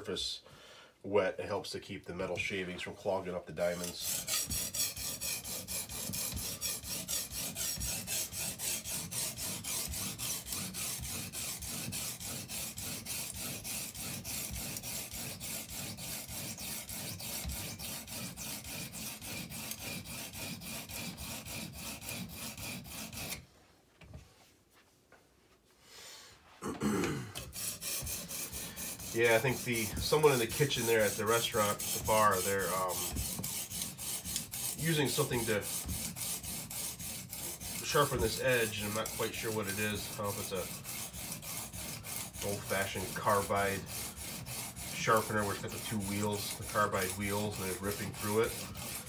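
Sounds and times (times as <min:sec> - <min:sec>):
stone grinding knife blade: 0:03.6 - 0:23.4, 0:27.4 - 0:49.0.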